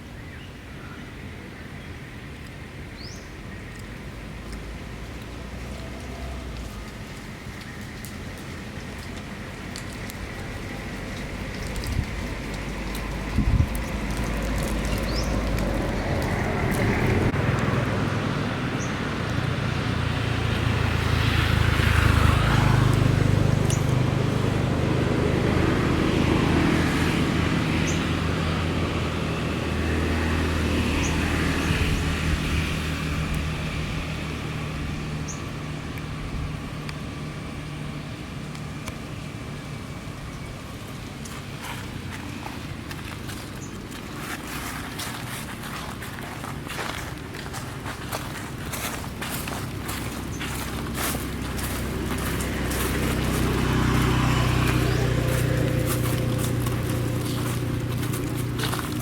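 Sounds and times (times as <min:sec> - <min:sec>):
vehicle engine low hum: 0:02.0 - 0:59.0.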